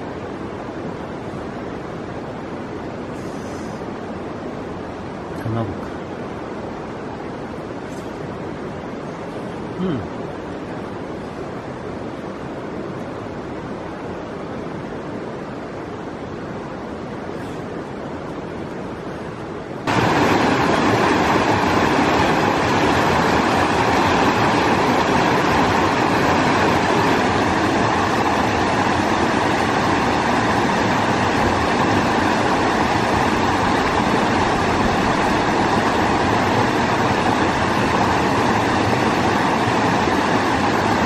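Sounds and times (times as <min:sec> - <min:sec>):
distant rushing water: 0:00.0 - 0:41.0
river water rushing: 0:00.0 - 0:41.0.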